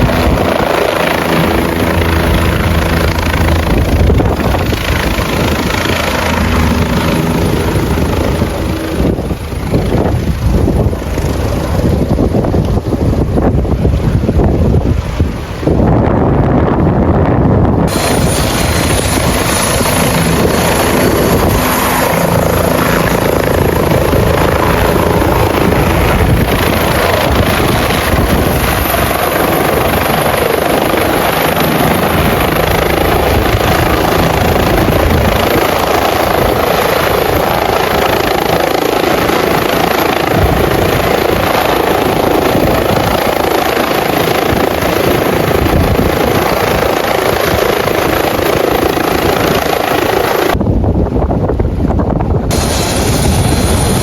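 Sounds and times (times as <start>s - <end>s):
helicopter running: 0.0s - 54.0s.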